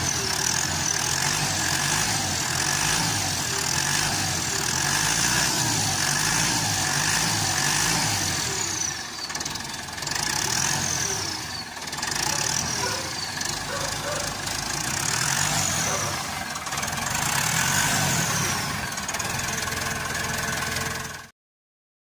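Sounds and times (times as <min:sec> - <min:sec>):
tractor diesel engine running: 0:00.0 - 0:21.3.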